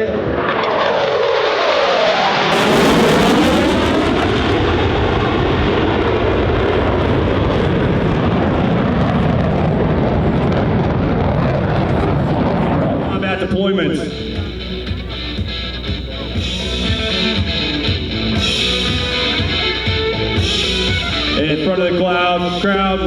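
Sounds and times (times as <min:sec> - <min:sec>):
jet passing low and fast: 0:00.0 - 0:23.0.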